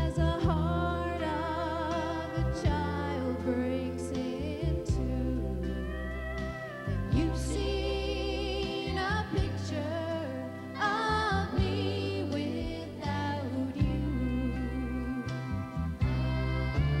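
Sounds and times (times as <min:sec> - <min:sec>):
woman singing into a microphone: 0:00.0 - 0:06.4, 0:07.1 - 0:17.0
instrumental accompaniment: 0:00.0 - 0:17.0.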